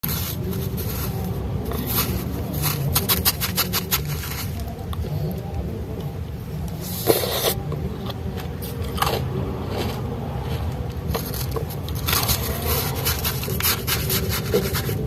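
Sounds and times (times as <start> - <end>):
spoon scraping shaved ice: 0.0 - 5.4, 6.8 - 15.0.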